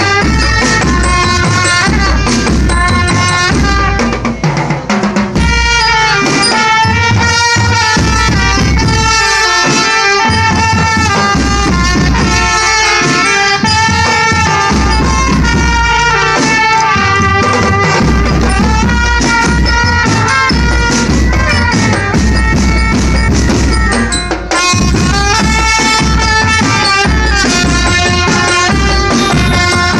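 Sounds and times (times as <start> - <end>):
bass drums beating: 0.0 - 29.9
drum strokes: 0.0 - 29.9
marching band playing: 0.0 - 29.9.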